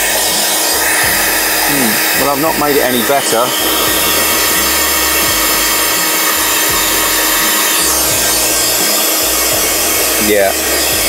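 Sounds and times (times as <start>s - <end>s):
hot air gun blowing: 0.0s - 11.0s
low background music: 0.0s - 11.0s.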